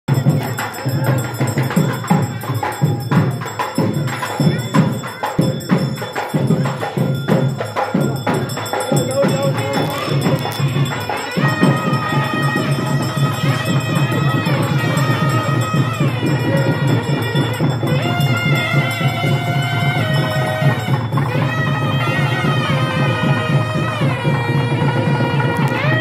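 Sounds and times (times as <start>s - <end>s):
drums beating fast rhythm: 0.0s - 26.0s
held pitched tone: 0.1s - 24.2s
jingling percussion: 0.1s - 26.0s.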